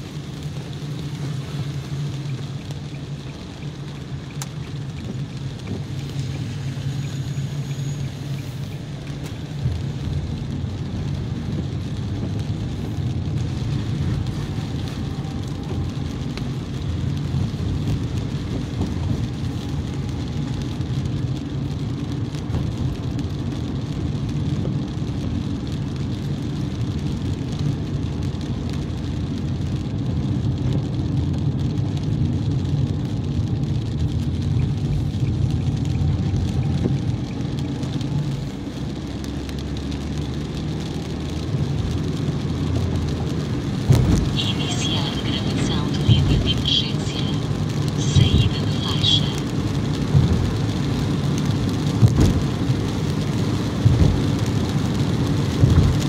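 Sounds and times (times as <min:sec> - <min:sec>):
car driving on wet road: 0:00.0 - 0:56.0
rain and spray hiss: 0:00.0 - 0:56.0.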